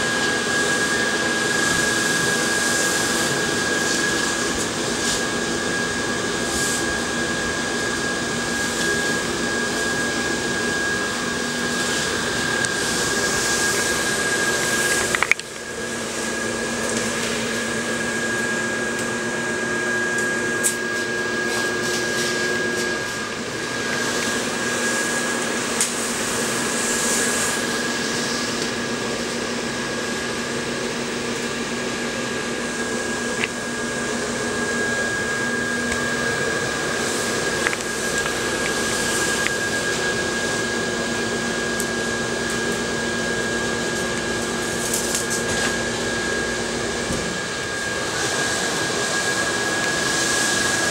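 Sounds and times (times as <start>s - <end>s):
blower fan whirring: 0.0s - 50.9s.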